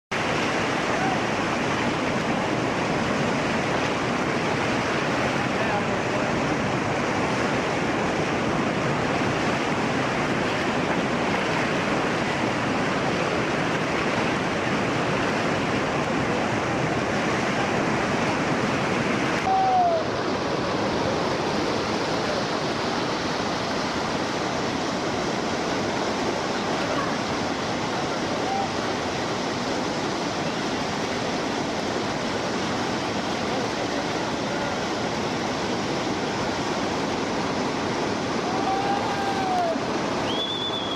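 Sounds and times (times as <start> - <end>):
water rushing: 0.1 - 40.9.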